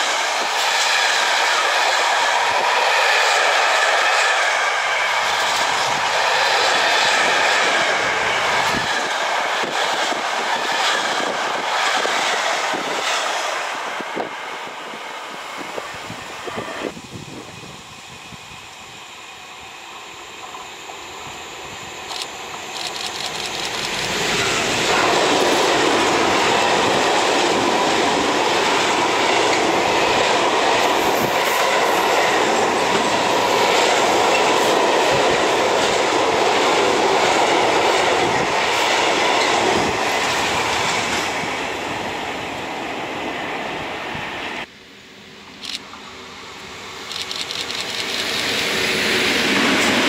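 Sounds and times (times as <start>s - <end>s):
freight train wheels rumbling: 0.0s - 44.7s, 45.3s - 50.0s.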